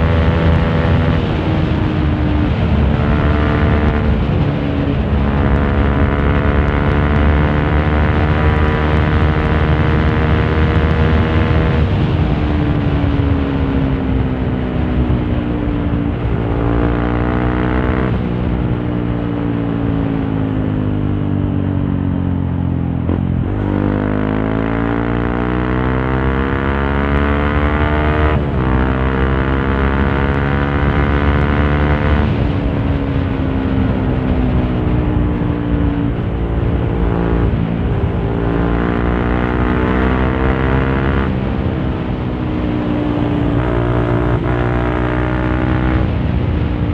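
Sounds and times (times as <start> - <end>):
low wind rumble: 0.0 - 46.9
motorcycle engine running: 0.0 - 46.9.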